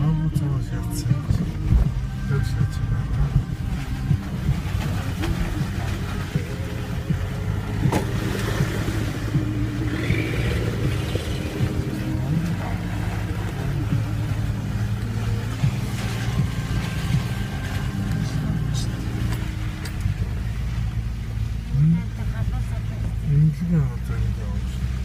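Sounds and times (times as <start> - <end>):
tyres on rough dirt road: 0.0 - 25.0
vehicle engine running: 0.0 - 25.0.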